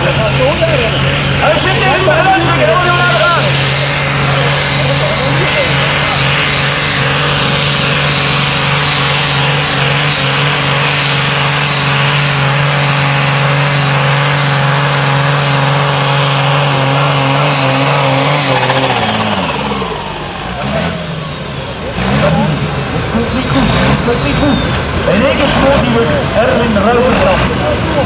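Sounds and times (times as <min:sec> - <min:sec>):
pulling tractor diesel engine: 0:00.0 - 0:28.0.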